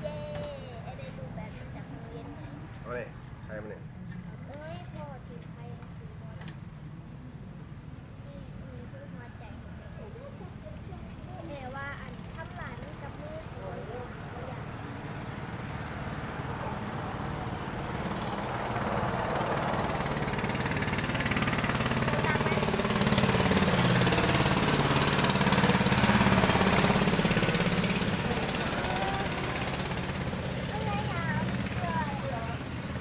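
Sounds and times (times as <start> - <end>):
small engine passing by: 0.0 - 33.0.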